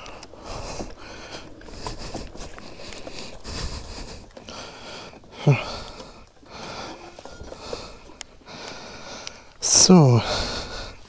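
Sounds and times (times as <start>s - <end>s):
person breathing and sniffing: 0.2s - 9.6s.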